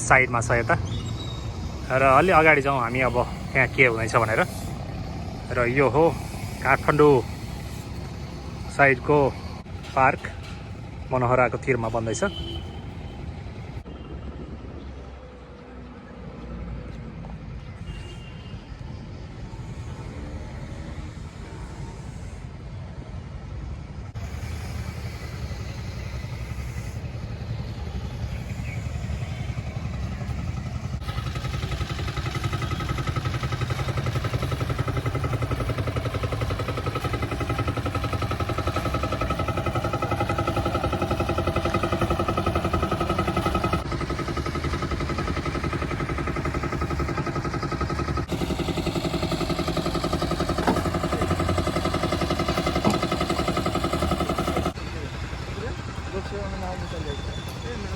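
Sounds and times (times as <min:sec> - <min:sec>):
engine running with low rumble: 0:00.0 - 0:57.9.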